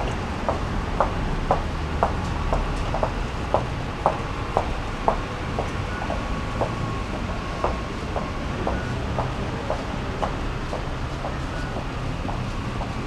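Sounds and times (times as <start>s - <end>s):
rail traffic rumble: 0.0s - 13.0s.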